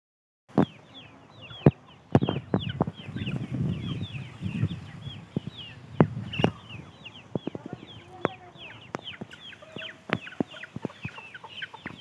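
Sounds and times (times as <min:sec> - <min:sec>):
chicks peeping: 0:00.5 - 0:12.0.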